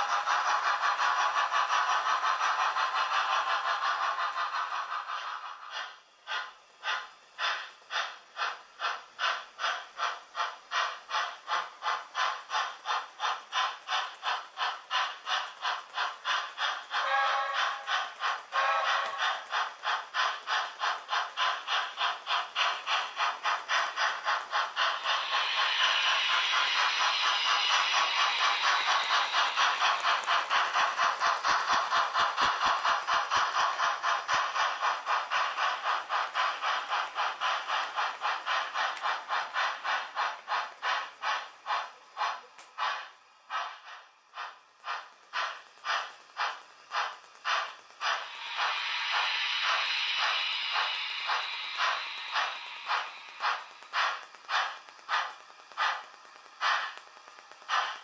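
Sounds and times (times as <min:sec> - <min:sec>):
model steam locomotive chuffing: 0:00.0 - 0:58.0.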